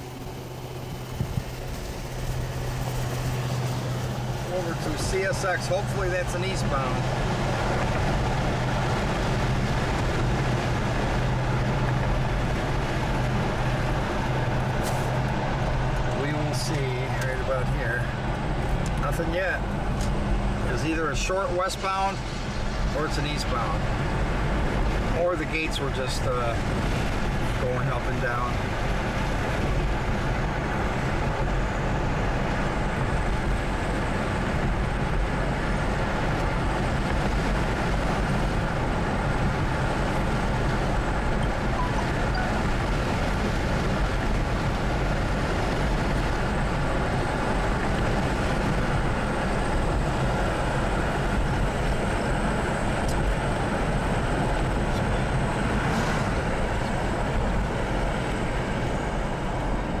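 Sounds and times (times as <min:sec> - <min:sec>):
car road noise rumble: 0:00.0 - 1:00.0.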